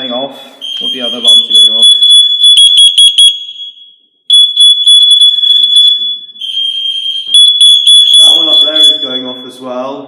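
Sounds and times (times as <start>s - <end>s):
lower alarm tone: 0.6s - 9.5s
piercing high-pitched alarm tone: 0.6s - 9.6s.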